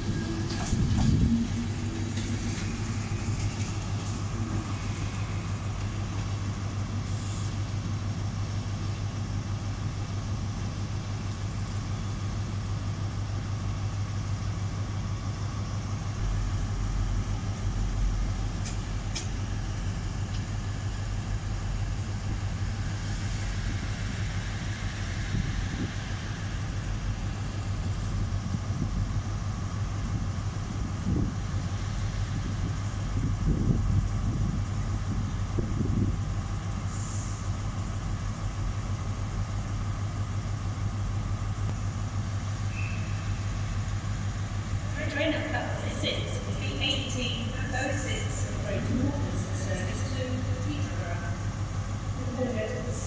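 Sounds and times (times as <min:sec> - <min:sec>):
deep rumble: 0:00.0 - 0:07.3, 0:15.5 - 0:53.0.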